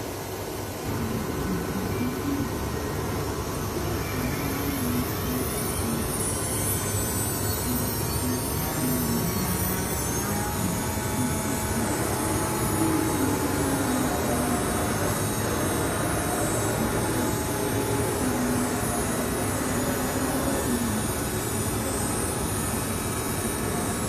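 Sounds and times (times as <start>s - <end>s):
wood router carving: 4.0s - 24.0s.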